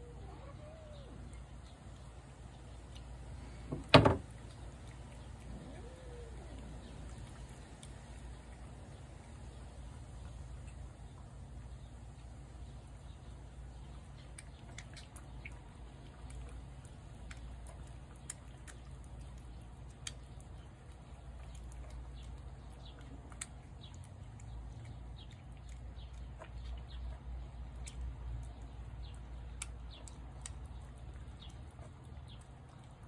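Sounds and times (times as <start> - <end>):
cat chewing wet food: 0.0 - 33.0
low steady rumble: 0.0 - 33.0.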